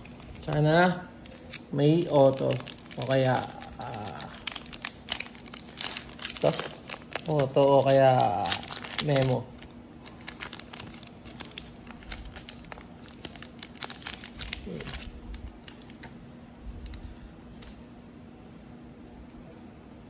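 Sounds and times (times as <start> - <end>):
foil wrapper crinkling: 0.0 - 16.1.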